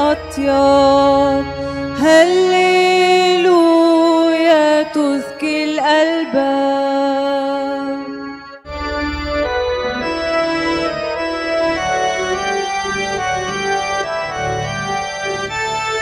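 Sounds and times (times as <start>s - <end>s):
organ keyboard chords: 0.0s - 16.0s.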